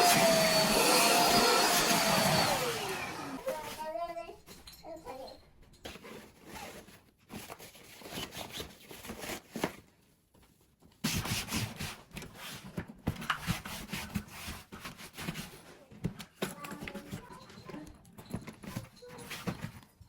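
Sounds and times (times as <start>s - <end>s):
rustling of objects handled: 3.4s - 20.0s.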